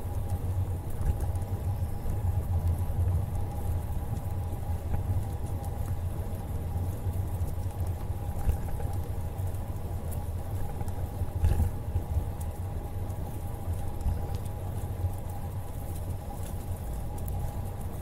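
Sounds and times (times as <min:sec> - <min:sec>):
bicycle tyres rolling on asphalt: 0:00.0 - 0:18.0
faint steady whine: 0:00.0 - 0:18.0
wind rumble on microphone: 0:00.0 - 0:18.0.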